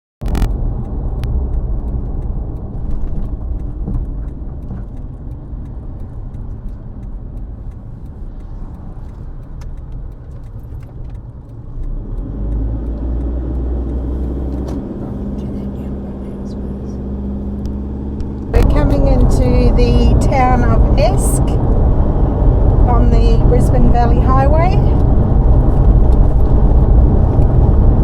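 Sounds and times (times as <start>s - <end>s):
car engine: 0.2s - 28.0s
road rumble: 0.2s - 28.0s.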